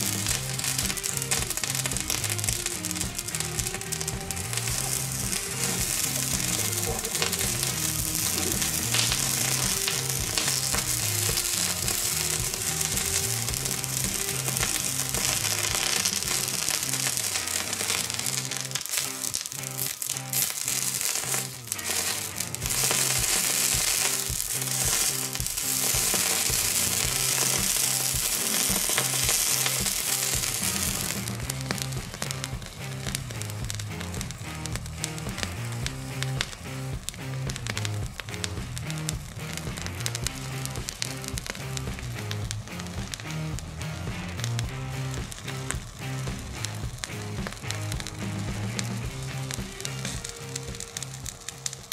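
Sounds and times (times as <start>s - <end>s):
background music: 0.0s - 51.9s
hot metal sizzling and crackling: 0.0s - 51.9s.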